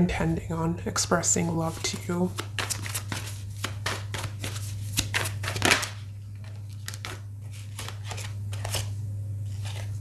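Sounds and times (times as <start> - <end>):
cards shuffling: 1.7 - 10.0.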